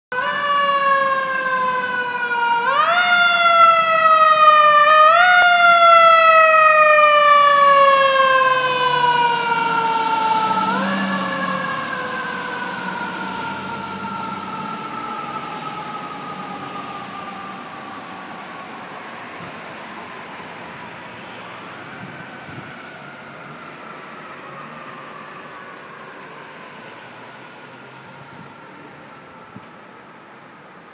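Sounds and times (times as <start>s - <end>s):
fire truck siren wailing: 0.1s - 30.8s.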